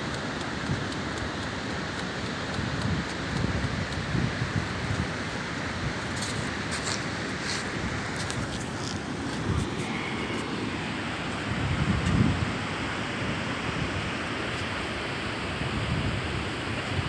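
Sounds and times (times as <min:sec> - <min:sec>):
wind buffeting microphone: 0:00.1 - 0:14.4.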